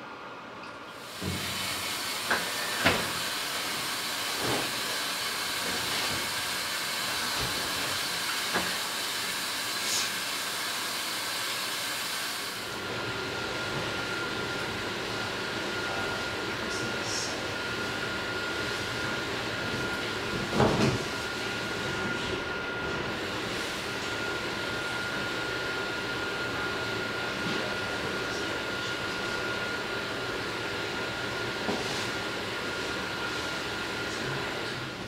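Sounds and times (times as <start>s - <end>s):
room hum: 0.0s - 35.0s
water rushing into washing machine: 0.9s - 16.6s, 17.4s - 35.0s.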